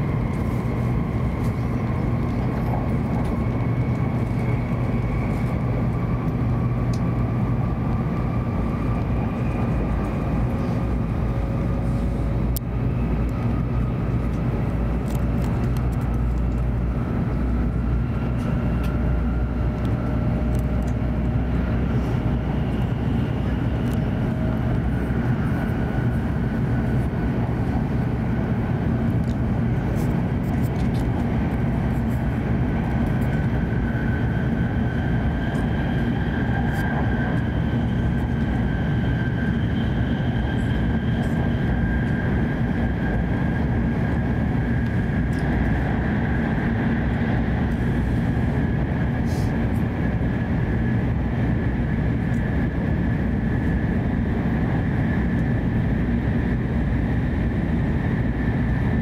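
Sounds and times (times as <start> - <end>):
train wheels and air rumbling: 0.0 - 59.0.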